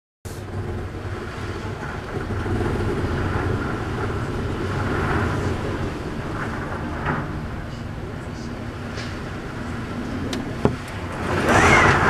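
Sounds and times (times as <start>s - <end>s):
strong wind gusts buffeting microphone: 0.4s - 12.0s.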